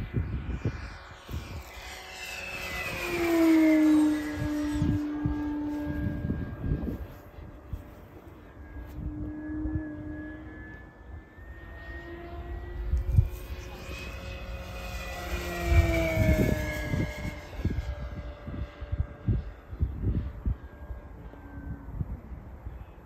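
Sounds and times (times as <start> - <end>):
electric model plane motor whining: 0.0 - 23.0.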